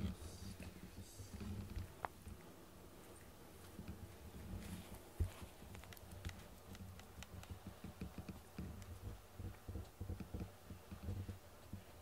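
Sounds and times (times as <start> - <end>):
soft clicks and scratches: 0.5 - 2.5, 3.1 - 12.0.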